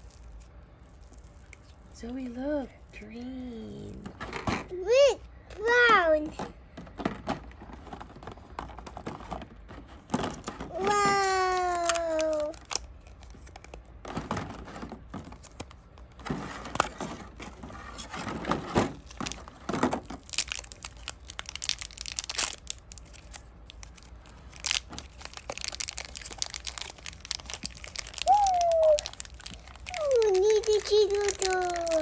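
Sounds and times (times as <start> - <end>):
plastic packaging crinkling and tearing: 0.0 - 4.4, 10.1 - 32.0.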